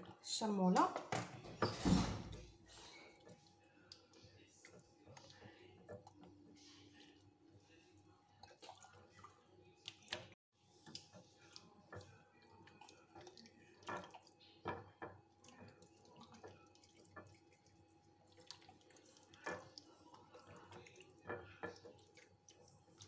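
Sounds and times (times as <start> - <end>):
hands squelching marinade into chicken: 2.5 - 23.0.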